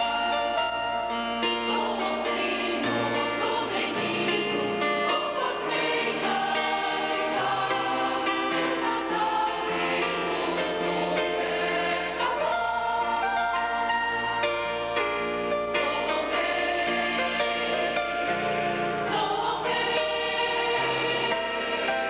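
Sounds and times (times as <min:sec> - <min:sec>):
mixed choir singing in harmony: 0:00.0 - 0:22.0.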